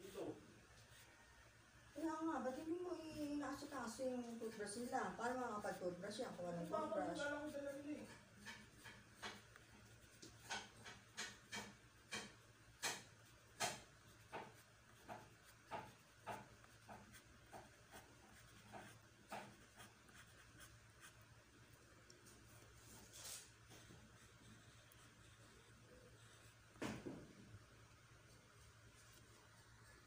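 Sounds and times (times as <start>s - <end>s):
colored pencil scratching on paper: 0.0s - 27.2s, 28.2s - 30.0s.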